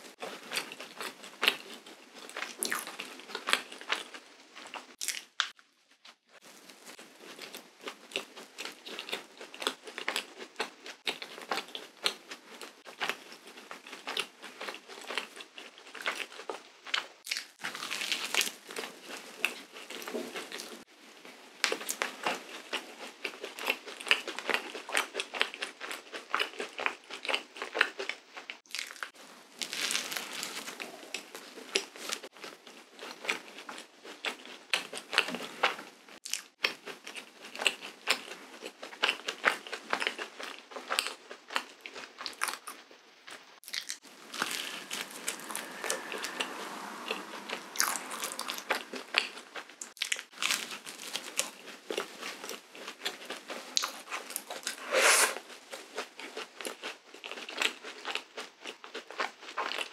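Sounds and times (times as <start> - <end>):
chewing crunchy waffle: 0.0 - 5.6, 6.3 - 20.9, 21.6 - 59.9.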